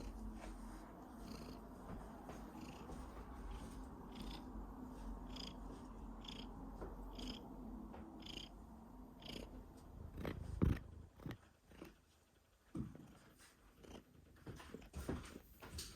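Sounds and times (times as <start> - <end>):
cat purring: 0.0 - 15.5.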